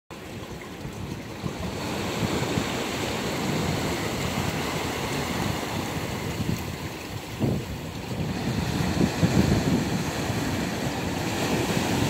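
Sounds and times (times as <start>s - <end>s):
sea waves washing over rocks: 0.1s - 12.0s.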